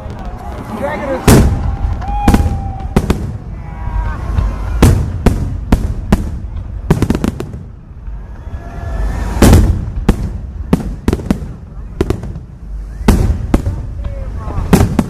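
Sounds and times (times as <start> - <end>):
continuous low rumble: 0.0 - 15.0
fireworks bangs: 0.0 - 15.0.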